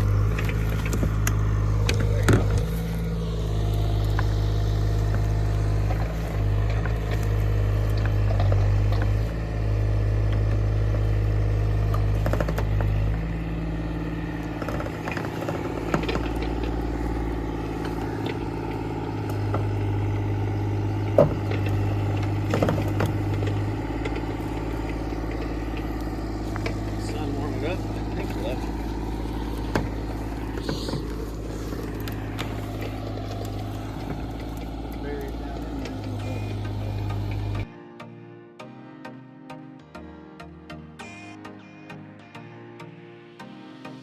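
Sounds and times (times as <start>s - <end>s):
diesel engine running: 0.0s - 38.7s.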